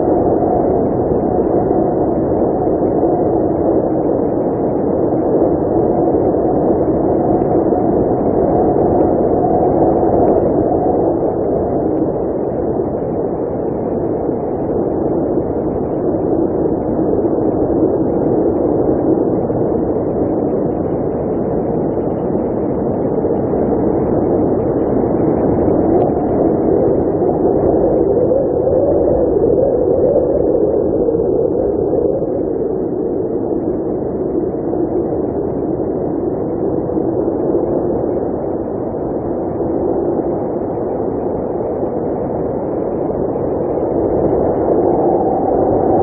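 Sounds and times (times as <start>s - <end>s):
blizzard wind blowing: 0.0s - 46.0s.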